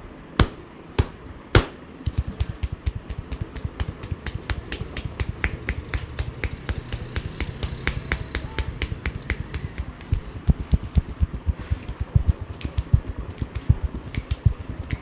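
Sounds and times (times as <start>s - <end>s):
hands tapping in massage: 0.4s - 15.0s.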